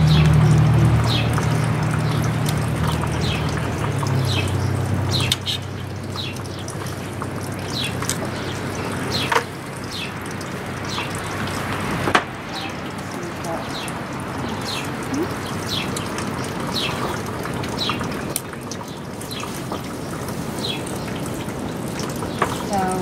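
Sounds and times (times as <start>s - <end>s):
small birds chirping: 0.0s - 11.6s, 12.5s - 23.0s.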